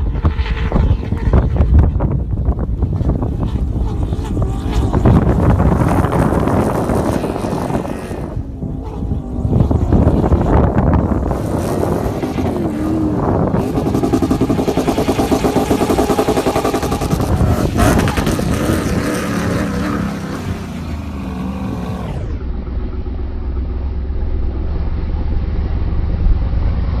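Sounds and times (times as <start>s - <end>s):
engine running and revving: 0.0s - 27.0s.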